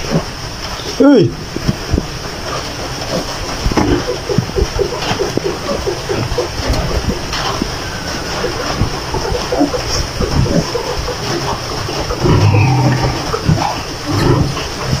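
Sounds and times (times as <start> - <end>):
piglets snuffling and grunting: 2.4 - 15.0.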